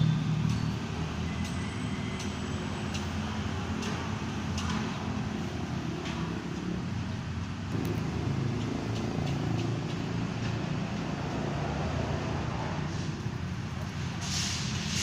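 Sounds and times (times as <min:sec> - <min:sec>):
engine running with low rumble: 0:01.3 - 0:15.0.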